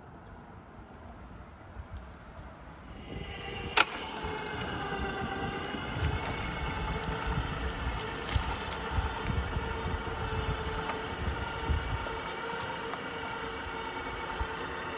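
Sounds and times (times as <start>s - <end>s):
crane winch engine whining: 2.8s - 14.9s.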